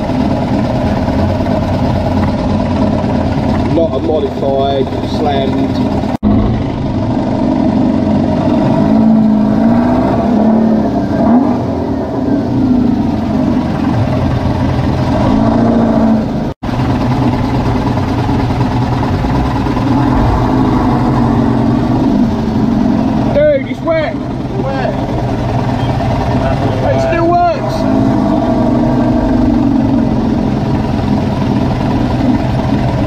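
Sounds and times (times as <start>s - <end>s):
buggy engine revving: 0.0s - 33.0s
wheels spinning on wet concrete: 0.0s - 33.0s.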